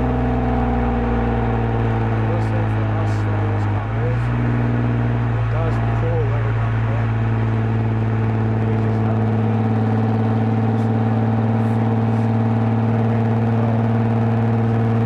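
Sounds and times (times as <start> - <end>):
car engine exhaust drone: 0.0 - 15.0.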